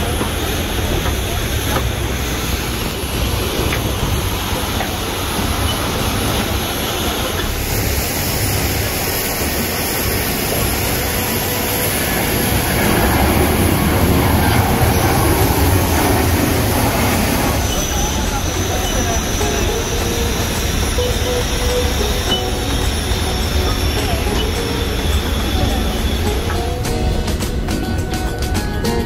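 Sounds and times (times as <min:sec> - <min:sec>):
jet airliner taking off: 0:00.0 - 0:29.0.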